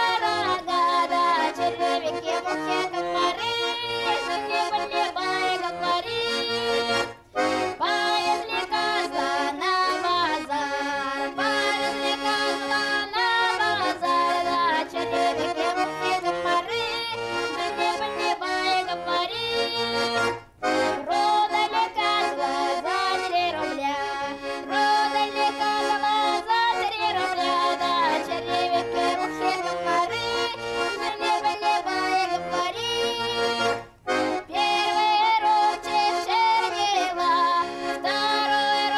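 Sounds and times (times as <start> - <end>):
accordion folk tune: 0.0 - 38.9.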